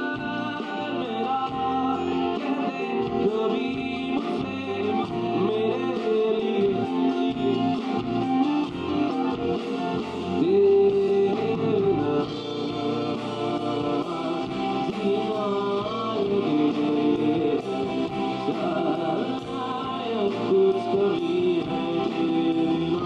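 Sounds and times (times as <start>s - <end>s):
acoustic guitar: 0.0s - 23.0s
bass guitar: 0.0s - 23.0s
electric guitar: 0.0s - 23.0s
man singing: 0.0s - 23.0s.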